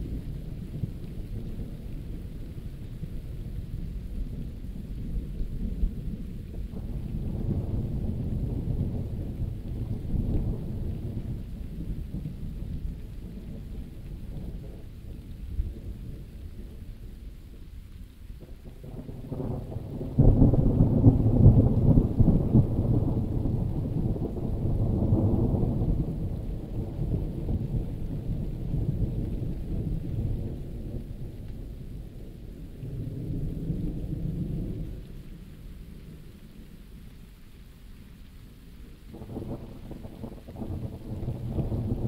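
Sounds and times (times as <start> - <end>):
rolling thunder: 0.0 - 16.8, 18.5 - 36.3, 39.1 - 42.0
steady rain: 0.0 - 42.0.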